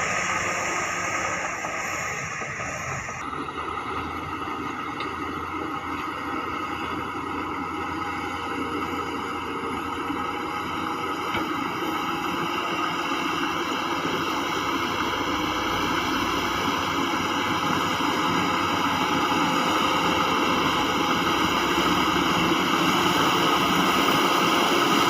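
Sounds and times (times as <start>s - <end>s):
diesel heavy machinery running: 0.0s - 25.0s.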